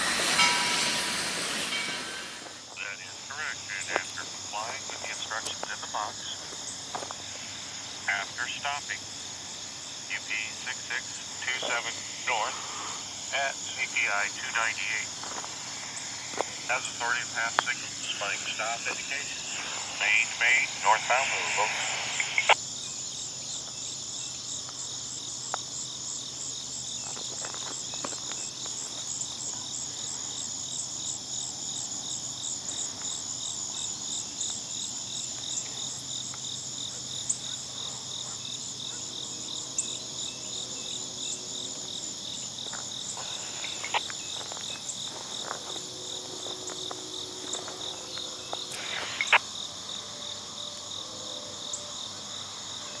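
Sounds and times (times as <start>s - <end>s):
crickets and insects chirping: 0.0s - 53.0s.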